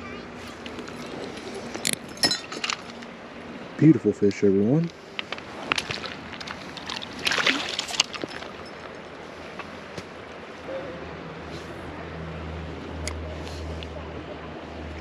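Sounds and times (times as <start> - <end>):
flowing creek: 0.0 - 15.0
water splashing and sloshing: 0.3 - 3.8, 4.4 - 15.0.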